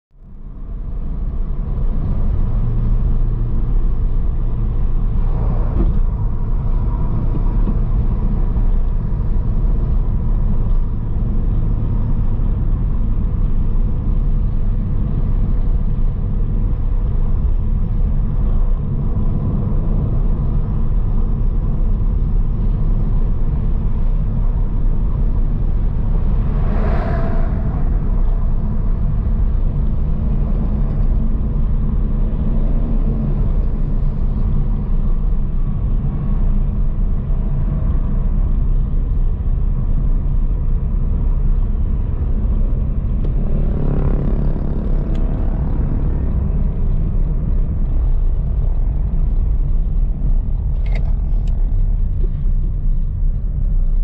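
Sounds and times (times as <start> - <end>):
car driving on paved road: 0.1 - 54.0.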